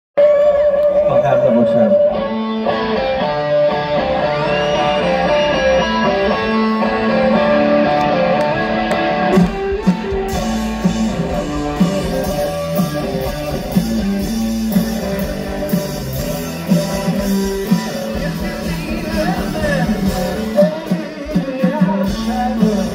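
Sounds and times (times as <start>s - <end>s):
bass guitar: 0.2s - 22.9s
drums: 0.2s - 22.9s
electric guitar riff: 0.2s - 22.9s.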